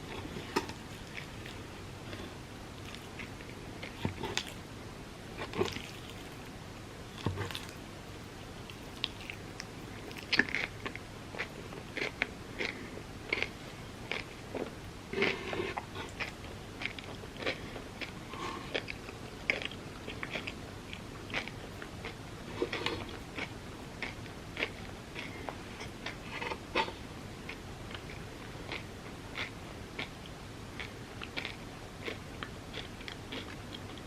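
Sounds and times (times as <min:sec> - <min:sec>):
chewing and biting: 0:00.1 - 0:04.6, 0:05.4 - 0:06.5, 0:07.2 - 0:07.8, 0:08.6 - 0:30.2, 0:30.8 - 0:34.0.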